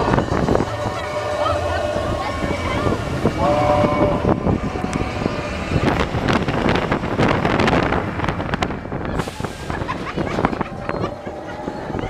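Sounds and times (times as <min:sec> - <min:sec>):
roller coaster cars clattering: 0:00.0 - 0:12.0
wind rushing over microphone: 0:00.0 - 0:12.0.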